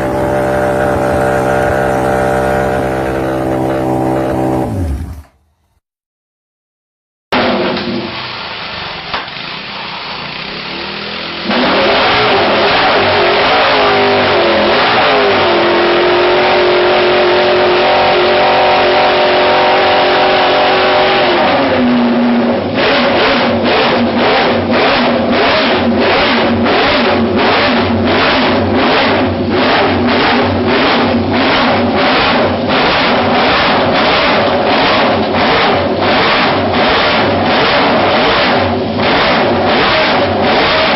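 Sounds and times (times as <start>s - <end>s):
car engine exhaust revving: 0.0s - 5.5s, 9.9s - 40.9s.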